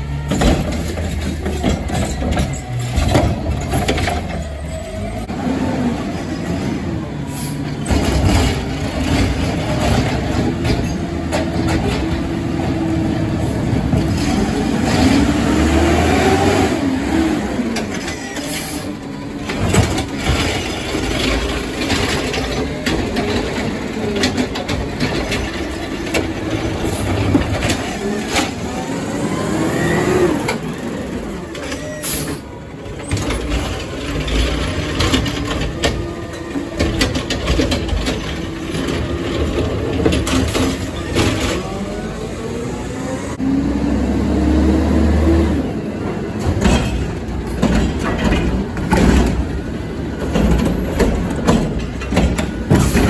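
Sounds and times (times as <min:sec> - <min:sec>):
diesel engines running: 0:00.0 - 0:53.0.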